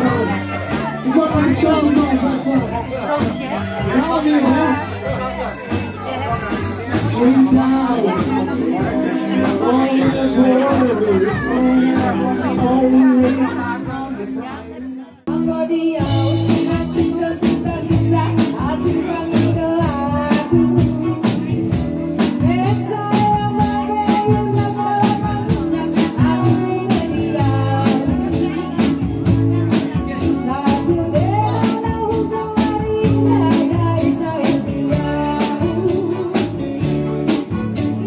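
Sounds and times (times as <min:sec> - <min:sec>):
band music with steady beat: 0:00.0 - 0:38.0.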